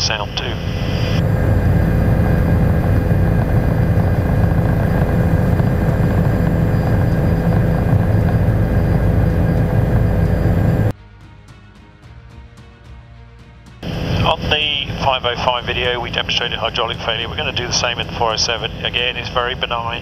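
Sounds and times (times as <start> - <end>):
faint high whine: 0.0 - 10.9, 13.8 - 20.0
helicopter rotor and engine rumble: 0.0 - 10.9, 13.8 - 20.0.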